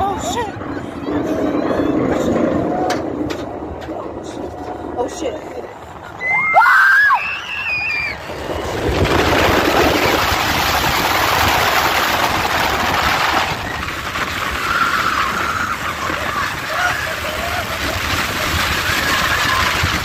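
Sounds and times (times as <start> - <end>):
roller coaster rushing along track: 0.0 - 20.0.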